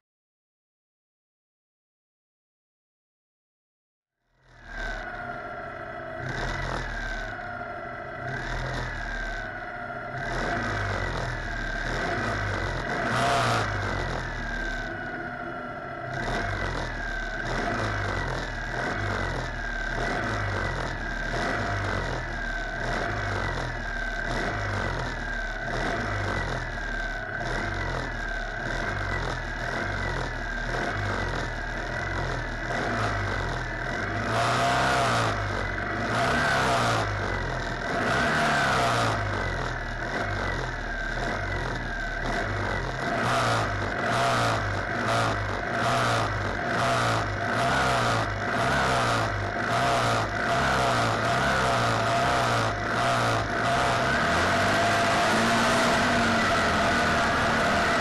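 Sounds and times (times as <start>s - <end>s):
buggy engine idling: 4.5s - 58.0s.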